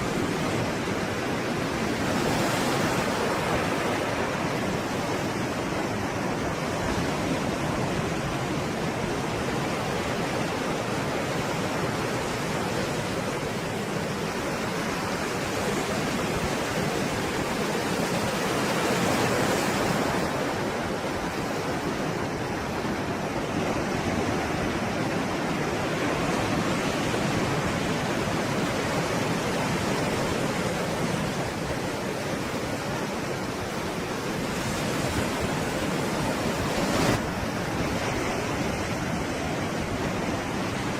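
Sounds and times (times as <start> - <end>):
stormy sea waves breaking: 0.0 - 40.9.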